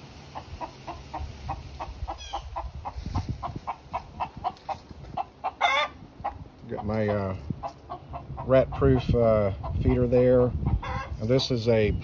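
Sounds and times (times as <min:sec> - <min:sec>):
hens clucking: 0:00.0 - 0:11.6.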